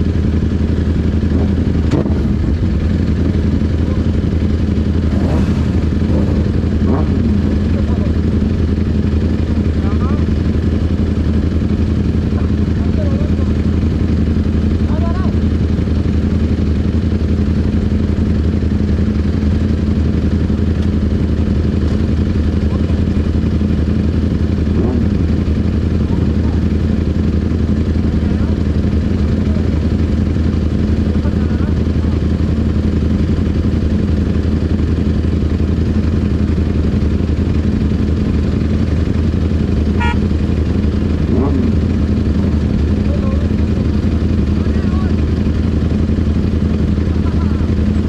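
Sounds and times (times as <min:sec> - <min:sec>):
motorcycles idling: 0:00.0 - 0:48.0.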